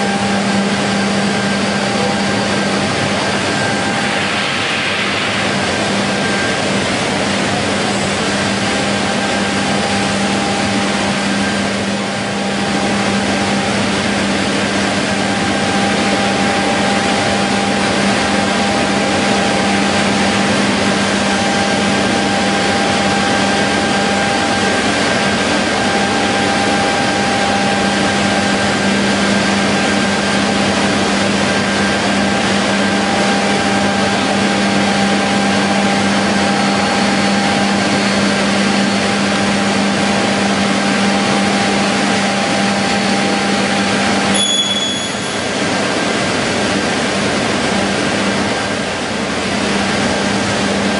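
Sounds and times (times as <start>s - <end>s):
saw running with whine: 0.0s - 46.8s.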